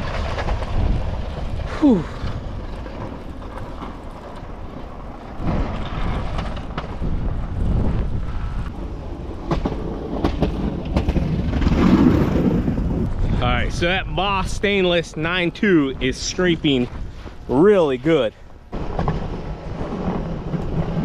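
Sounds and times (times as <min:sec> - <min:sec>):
plow blade scraping pavement: 0:00.0 - 0:21.0
truck engine rumble: 0:00.0 - 0:21.0.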